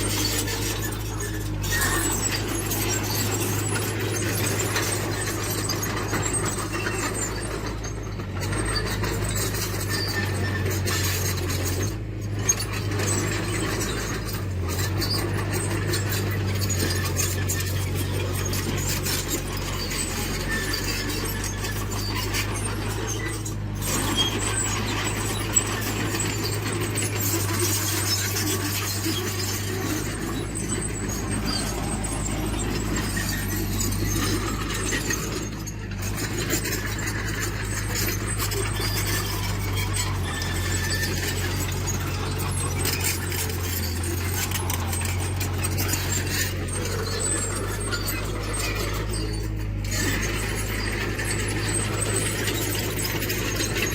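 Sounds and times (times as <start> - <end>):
diesel engine running: 0.0 - 53.9
metal squealing and scraping: 0.0 - 53.9.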